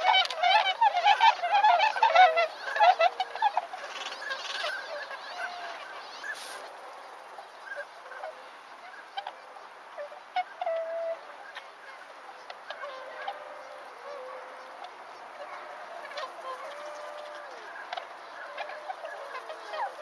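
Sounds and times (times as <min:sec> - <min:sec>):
swans honking: 0:00.0 - 0:20.0.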